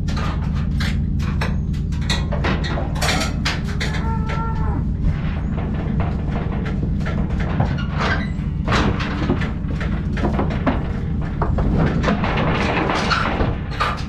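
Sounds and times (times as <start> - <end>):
knocks thumps and clatter: 0.0 - 14.0
steady low rumble: 0.0 - 14.0.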